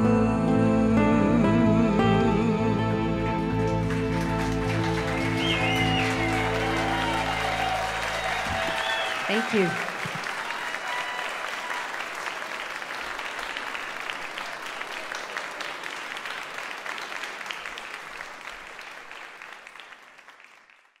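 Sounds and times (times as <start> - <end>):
audience applauding: 3.4 - 21.0.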